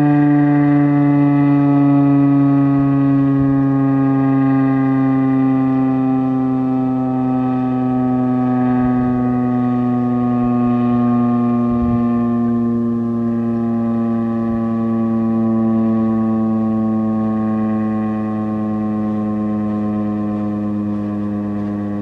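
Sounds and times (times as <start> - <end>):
warning siren winding down: 0.0 - 22.0.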